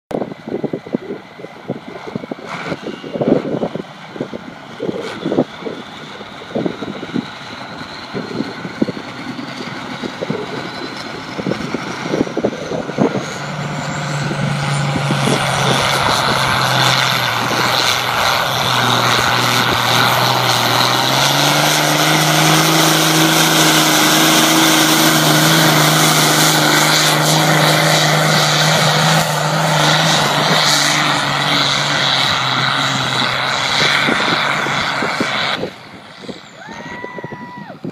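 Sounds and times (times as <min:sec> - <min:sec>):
tractor diesel engine: 0:00.1 - 0:37.9
turbocharger whistle: 0:04.8 - 0:37.9.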